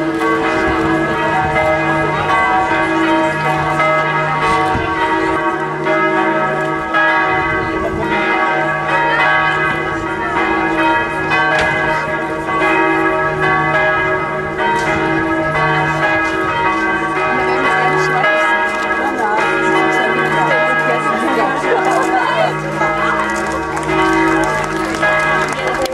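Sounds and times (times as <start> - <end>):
church bells ringing: 0.0 - 25.9.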